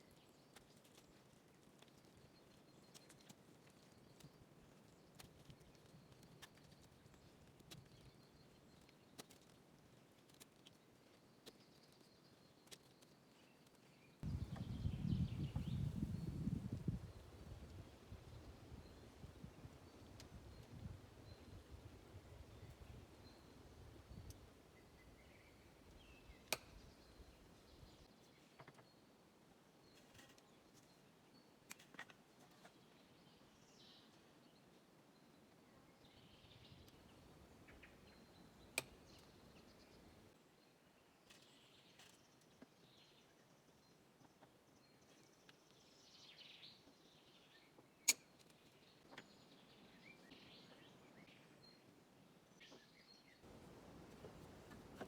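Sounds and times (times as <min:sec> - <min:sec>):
faint outdoor ambience: 0:00.0 - 0:55.0.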